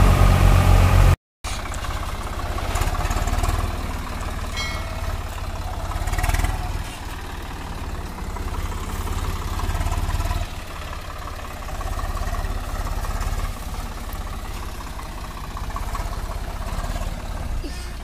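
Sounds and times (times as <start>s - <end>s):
tractor diesel engine chugging: 0.0s - 18.0s.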